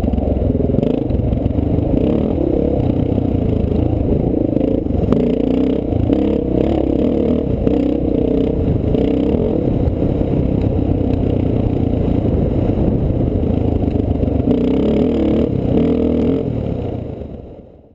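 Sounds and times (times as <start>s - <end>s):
dirt bike engine running: 0.0s - 17.9s.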